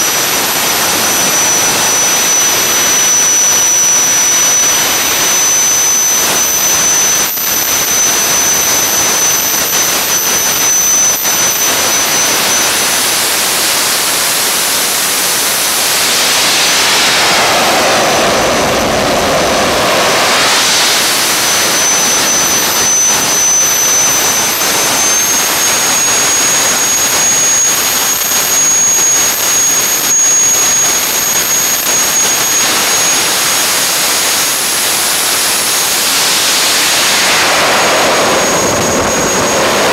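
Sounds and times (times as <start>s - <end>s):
high engine whine: 0.0s - 39.9s
turbojet engine rushing: 0.0s - 39.9s.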